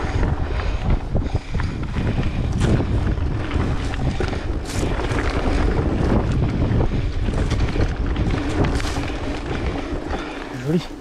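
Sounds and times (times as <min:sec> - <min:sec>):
bike rattling over bumps: 0:00.0 - 0:11.0
bike tyres rumbling on dirt: 0:00.0 - 0:11.0
wind on microphone: 0:00.0 - 0:11.0.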